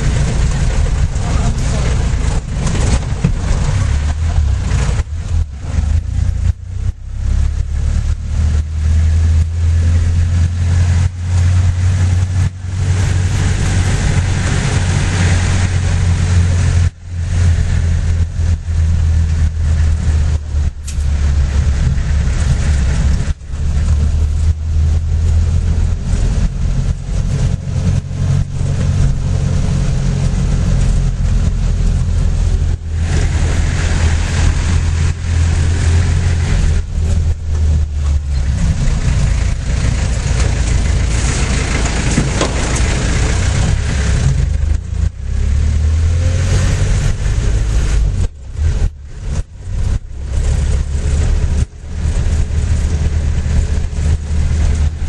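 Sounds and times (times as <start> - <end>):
road noise: 0.0 - 55.0
vehicle engine drone: 0.0 - 55.0.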